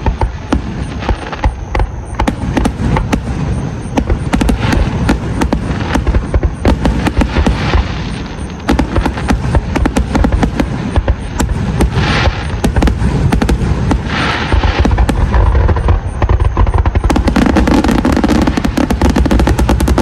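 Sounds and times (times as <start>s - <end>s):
fireworks bangs and crackles: 0.0s - 20.0s
fireworks low booms: 0.0s - 20.0s.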